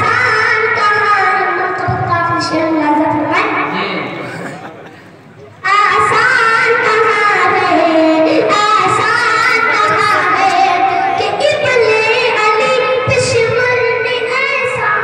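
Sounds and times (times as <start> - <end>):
boy singing over loudspeakers: 0.0 - 4.2, 5.6 - 15.0.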